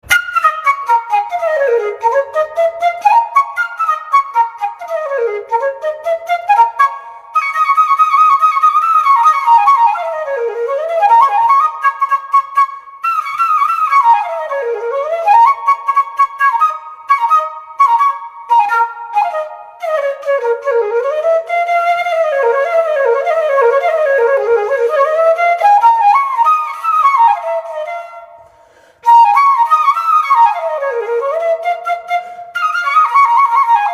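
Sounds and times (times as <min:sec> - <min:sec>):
flute playing fast melody: 0:00.1 - 0:28.4, 0:29.0 - 0:33.9.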